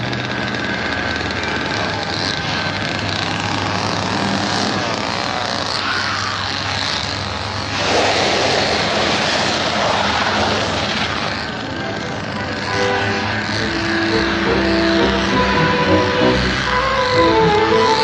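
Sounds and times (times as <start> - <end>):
chainsaw engine running: 0.0 - 18.0.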